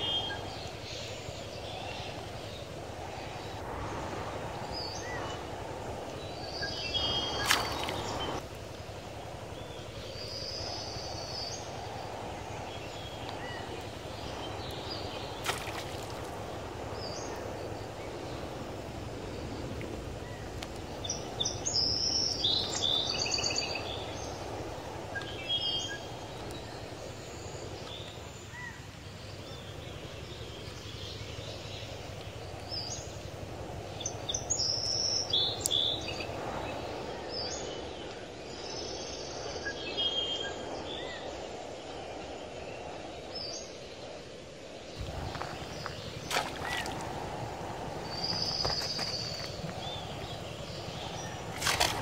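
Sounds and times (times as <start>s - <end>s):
birds chirping: 0.0s - 44.2s, 44.9s - 52.0s.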